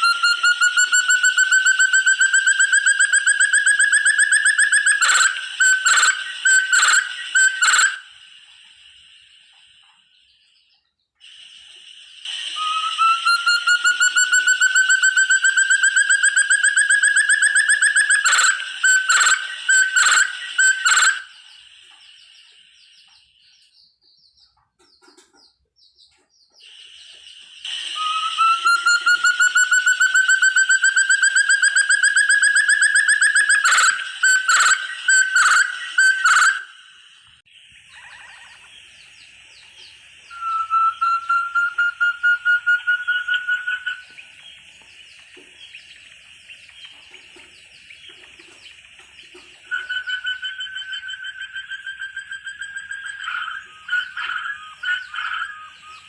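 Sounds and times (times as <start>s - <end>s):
steady high hiss: 0.0s - 24.0s, 26.6s - 56.0s
partridge whistled call: 0.0s - 56.0s.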